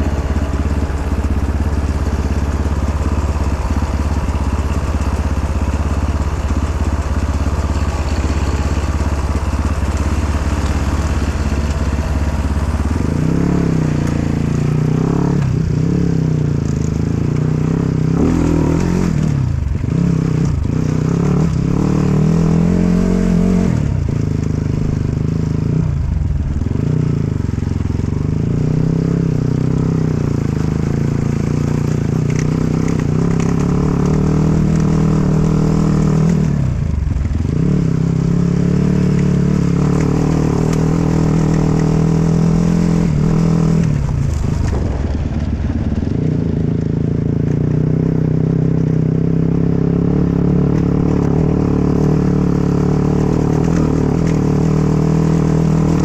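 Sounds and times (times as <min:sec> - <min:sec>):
dirt bike engine under throttle: 0:00.0 - 0:56.0.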